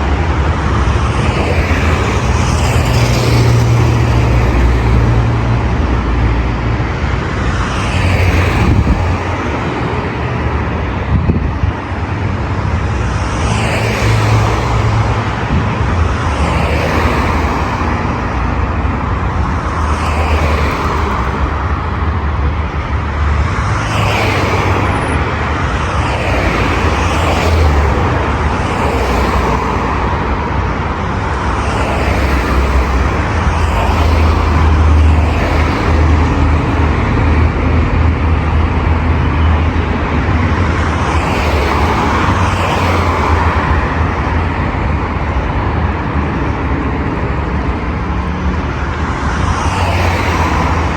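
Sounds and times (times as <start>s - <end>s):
car engines and tyre noise: 0.0s - 50.9s
low traffic rumble: 0.0s - 50.9s.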